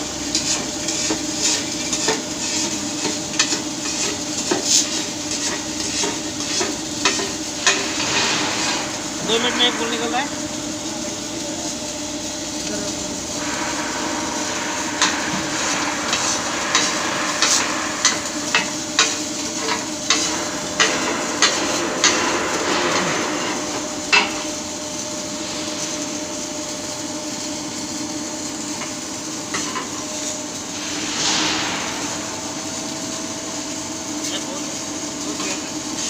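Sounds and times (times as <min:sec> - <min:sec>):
workshop machinery hiss and hum: 0:00.0 - 0:36.0.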